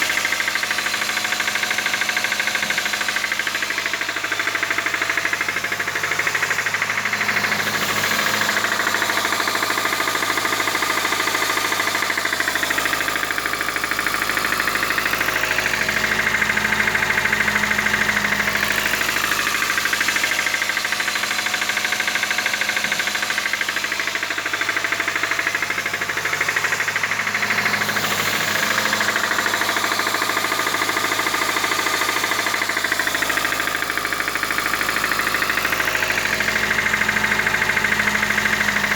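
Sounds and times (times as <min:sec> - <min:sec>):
engine with metallic knocking: 0:00.0 - 0:38.9.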